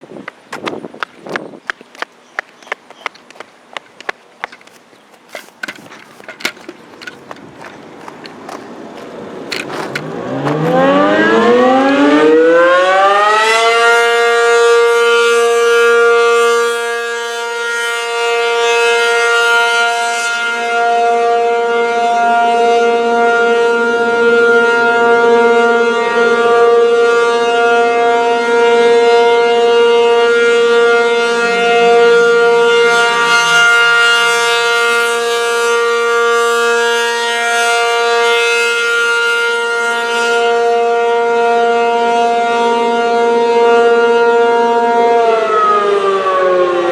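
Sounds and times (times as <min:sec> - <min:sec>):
rotating warning siren: 0:04.6 - 0:46.9.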